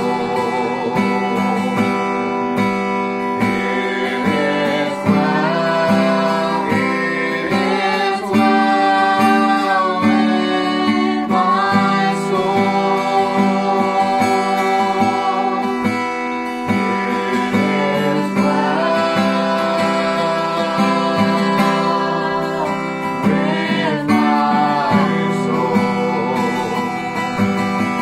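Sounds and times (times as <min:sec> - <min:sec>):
man and girls singing a hymn: 0:00.0 - 0:02.1, 0:03.4 - 0:16.0, 0:16.6 - 0:27.2
strummed acoustic guitar: 0:00.0 - 0:28.0.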